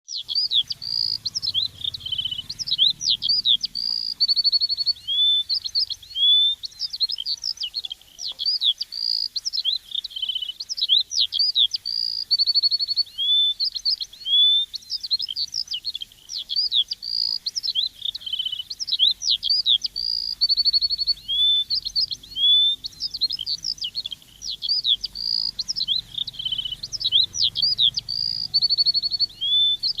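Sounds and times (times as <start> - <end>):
songbird chirping: 0.0 - 30.0
buzzy bird trill: 0.1 - 30.0.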